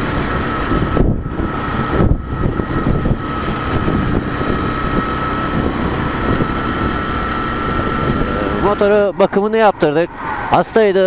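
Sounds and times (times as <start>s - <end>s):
wind rushing: 0.0s - 9.0s
motorcycle engine running: 0.0s - 10.5s.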